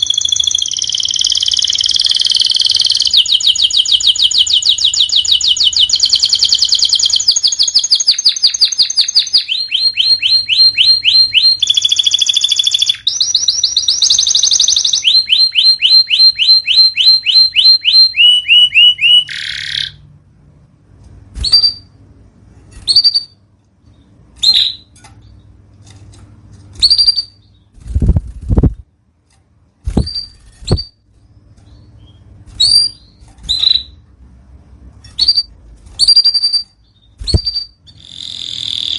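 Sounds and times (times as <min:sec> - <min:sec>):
canary trilling: 0:00.0 - 0:20.2, 0:21.4 - 0:22.0, 0:22.7 - 0:25.7, 0:26.6 - 0:28.6, 0:29.9 - 0:34.1, 0:35.1 - 0:38.9.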